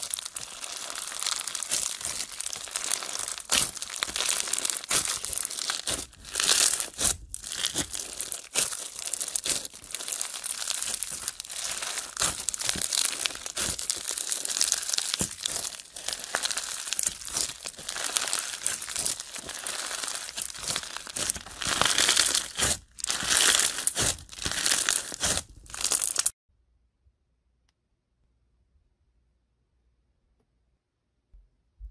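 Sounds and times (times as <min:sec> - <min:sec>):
crunchy slime crackling: 0:00.0 - 0:26.4.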